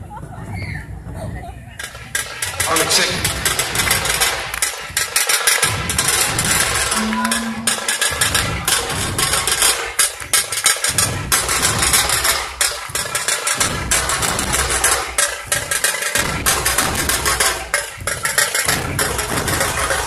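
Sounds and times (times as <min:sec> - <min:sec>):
rattling drums: 0:00.0 - 0:20.0
barrel drums beaten fast: 0:01.8 - 0:20.0.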